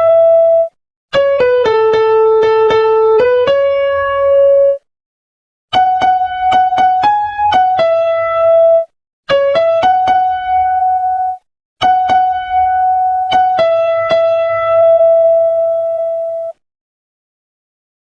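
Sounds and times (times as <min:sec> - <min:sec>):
electronic keyboard melody: 0:00.0 - 0:04.9, 0:05.7 - 0:16.6.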